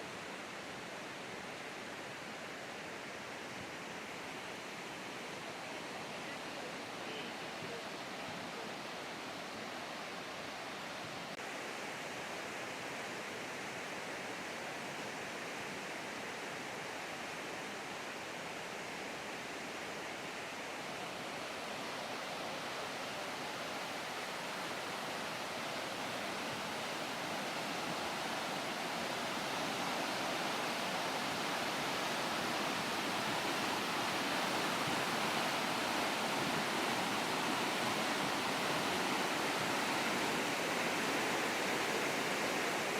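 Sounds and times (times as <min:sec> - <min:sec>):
floodwater rushing down creek: 0:00.0 - 0:42.9.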